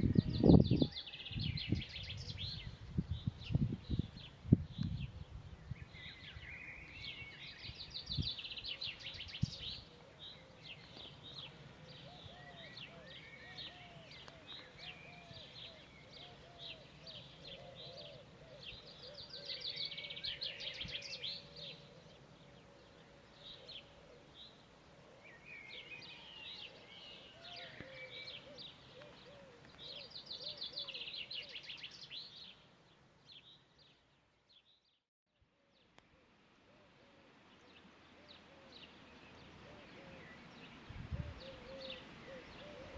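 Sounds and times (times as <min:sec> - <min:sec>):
bird trilling song: 0:00.0 - 0:24.6, 0:25.2 - 0:32.6, 0:37.5 - 0:42.9
low repeated bird call: 0:00.0 - 0:35.0, 0:35.6 - 0:42.9.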